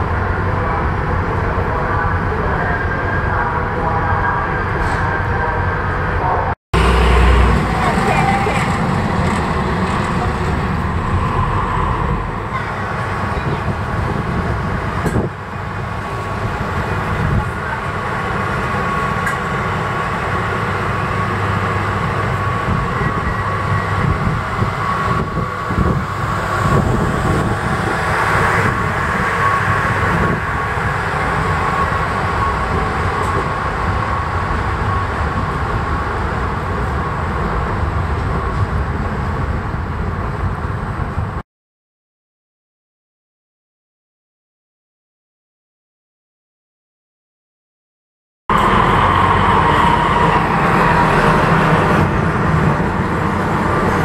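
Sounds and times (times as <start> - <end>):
diesel train engine: 0.0 - 41.4, 48.5 - 54.0
wheels rumbling on rails: 0.0 - 41.4, 48.5 - 54.0.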